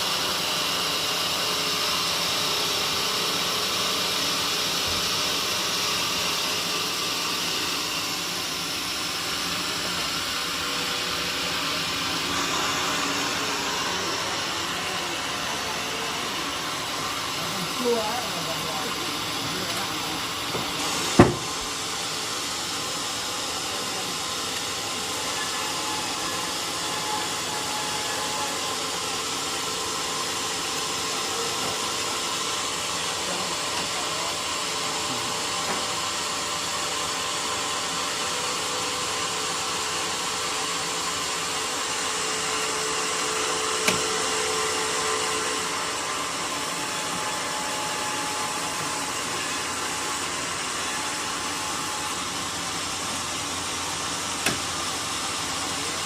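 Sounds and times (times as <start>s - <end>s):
sawmill machinery whirring: 0.0s - 56.0s.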